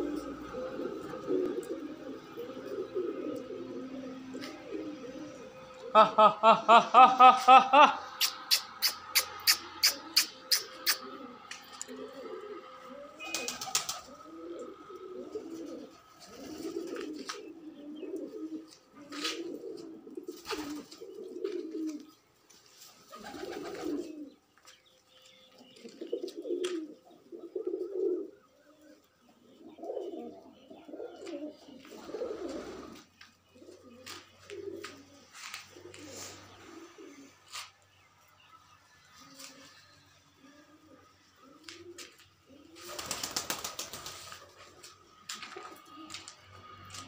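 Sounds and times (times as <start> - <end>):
pigeons cooing: 0.0 - 47.0.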